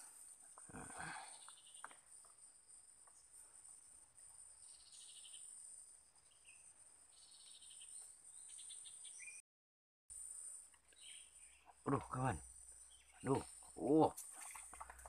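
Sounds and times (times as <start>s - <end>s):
high-pitched insect chorus: 0.0s - 9.2s, 10.1s - 15.0s
insect trills: 0.0s - 9.3s, 10.1s - 15.0s.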